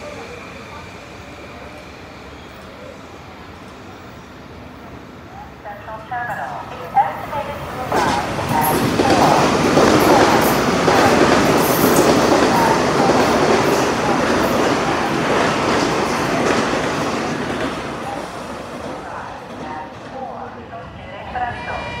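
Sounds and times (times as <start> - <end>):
commuter train passing: 0.0 - 22.0.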